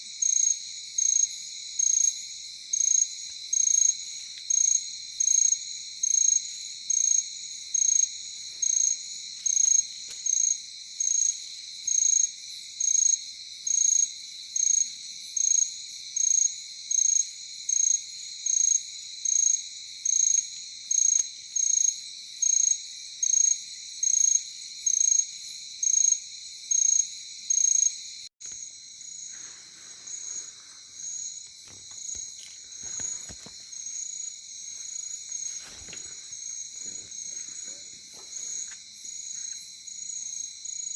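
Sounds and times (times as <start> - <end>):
crickets chorus: 0.0 - 40.9
loud cricket chirp: 0.0 - 40.9.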